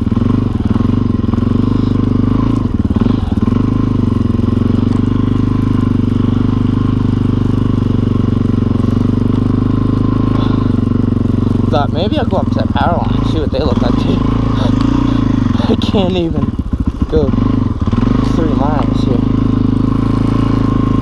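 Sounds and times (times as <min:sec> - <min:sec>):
dirt bike engine thumping: 0:00.0 - 0:21.0.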